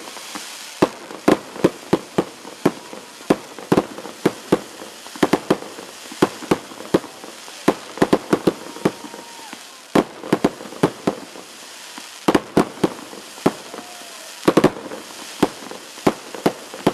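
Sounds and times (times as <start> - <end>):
fireworks bangs: 0.0 - 16.9
steady hiss: 0.0 - 16.9.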